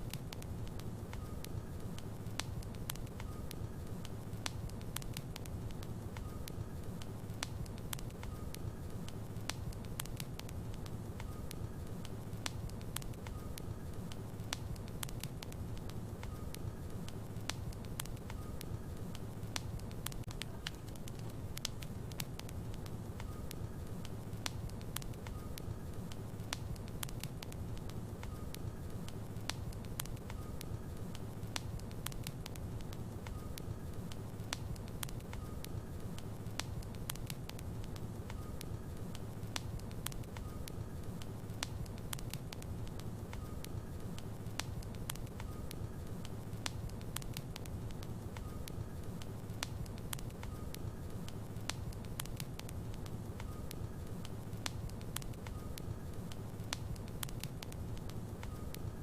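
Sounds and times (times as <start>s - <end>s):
logs crackling and popping: 0.0s - 59.0s
low rumble of fire: 0.0s - 59.0s.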